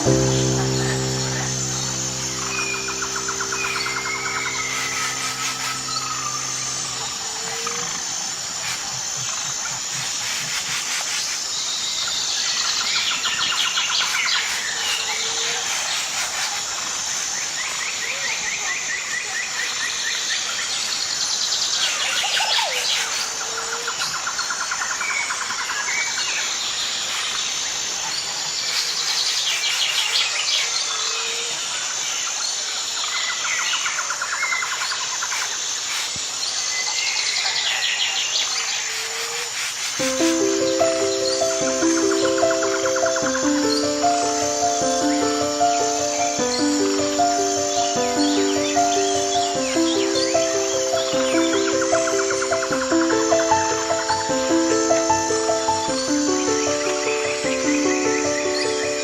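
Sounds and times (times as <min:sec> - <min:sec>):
steady high-pitched hiss: 0:00.0 - 0:19.1, 0:19.7 - 0:59.0.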